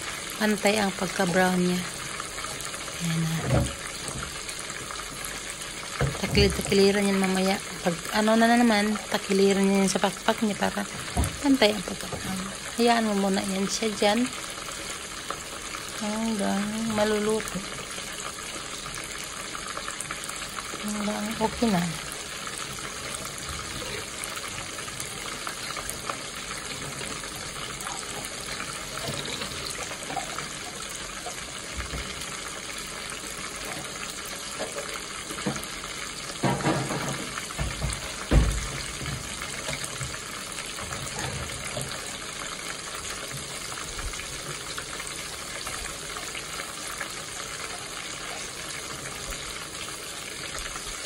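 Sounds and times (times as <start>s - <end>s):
meat sizzling in oil: 0.0s - 51.0s.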